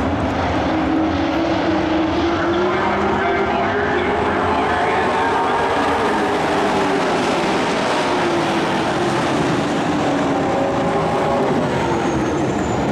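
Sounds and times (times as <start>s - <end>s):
race truck engines passing: 0.0s - 12.9s.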